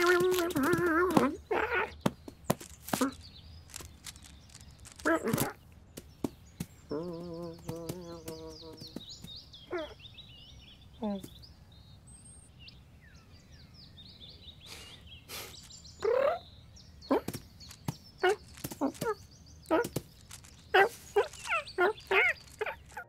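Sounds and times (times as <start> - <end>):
high bird chirps: 0.0 - 23.0.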